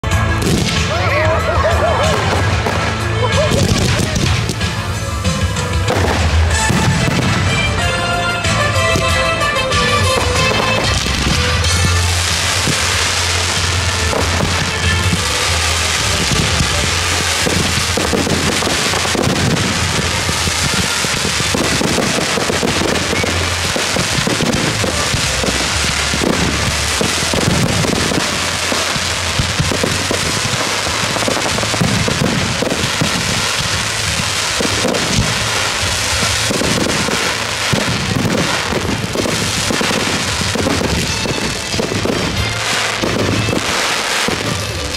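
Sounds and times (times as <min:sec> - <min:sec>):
fireworks crackling and popping: 0:00.0 - 0:44.9
music playing: 0:00.0 - 0:44.9
sharp firework reports: 0:00.0 - 0:44.9.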